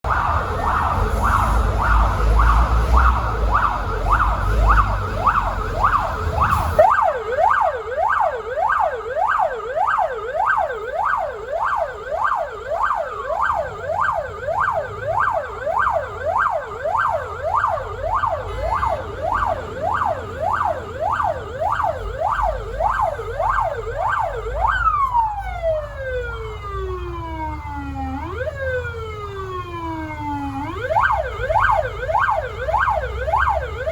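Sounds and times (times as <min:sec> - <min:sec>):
engine and road rumble: 0:00.0 - 0:33.9
fire truck siren: 0:00.0 - 0:33.9.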